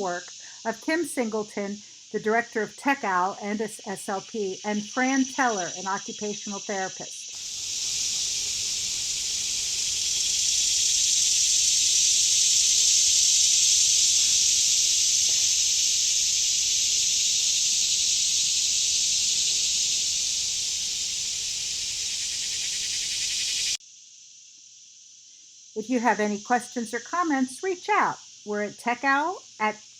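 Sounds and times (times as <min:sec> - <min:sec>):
cicadas buzzing drone: 0:00.0 - 0:29.9.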